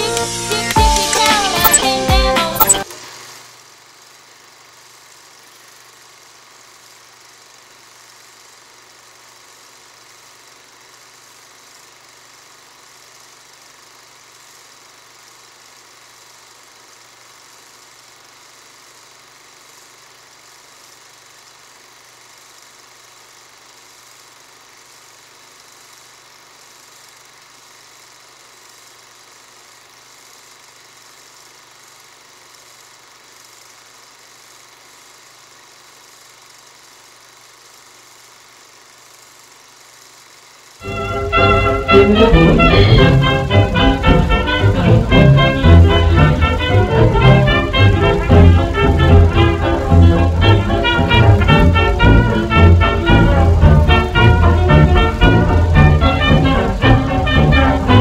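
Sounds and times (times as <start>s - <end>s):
steady hum with hiss: 0.0s - 58.0s.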